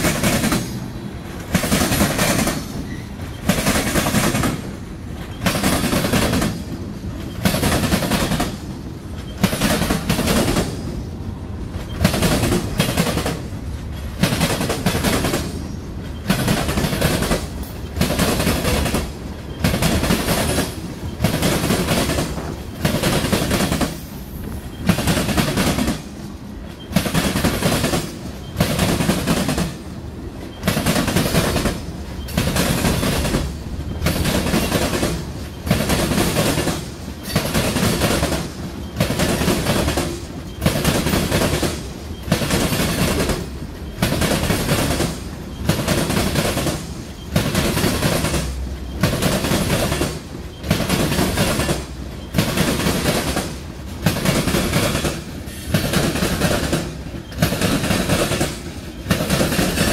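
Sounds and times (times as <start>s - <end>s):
train wheels clattering over rail joints: 0.0s - 11.1s, 11.7s - 59.9s.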